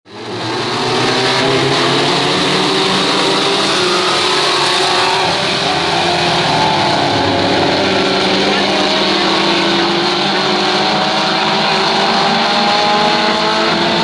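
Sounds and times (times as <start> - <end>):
truck engines running hard: 0.1 - 14.0.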